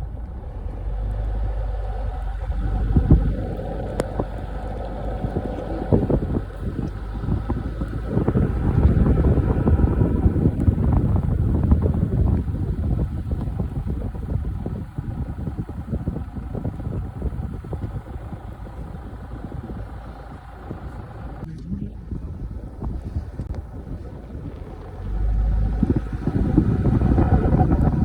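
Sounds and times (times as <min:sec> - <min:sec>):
vehicle driving over rough ground: 0:00.0 - 0:28.0.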